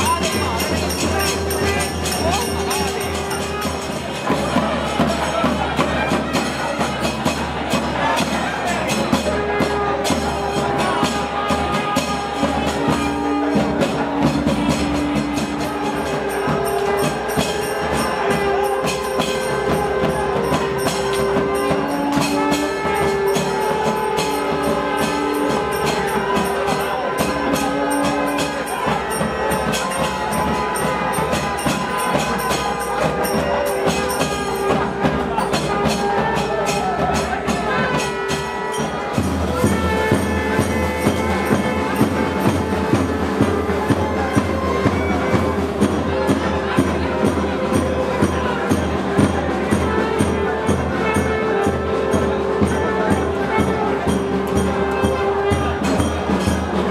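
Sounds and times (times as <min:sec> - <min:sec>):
fast steady drumming: 0:00.0 - 0:56.9
jingling percussion: 0:00.0 - 0:56.9
wind instrument holding long notes: 0:00.0 - 0:56.9.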